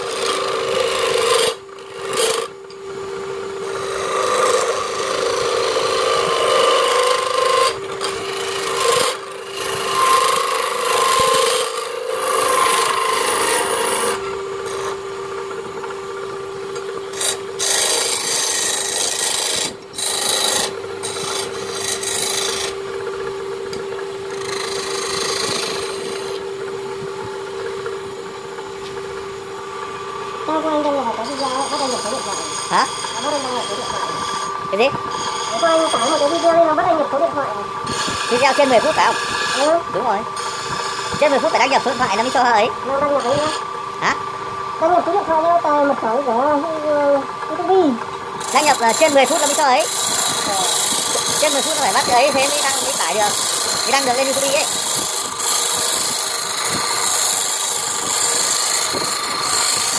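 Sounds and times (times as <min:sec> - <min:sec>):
chisel scraping spinning wood: 0:00.0 - 0:59.9
lathe humming: 0:00.0 - 0:59.9.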